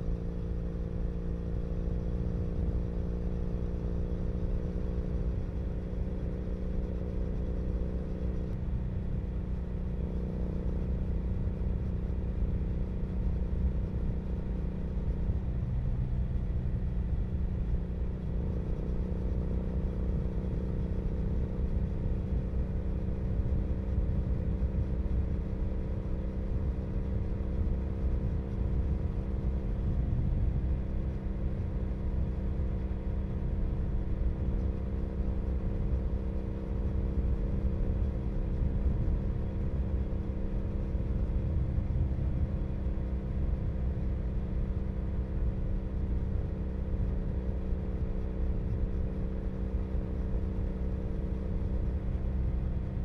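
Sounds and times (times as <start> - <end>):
motorcycle exhaust at steady cruise: 0.0 - 53.0.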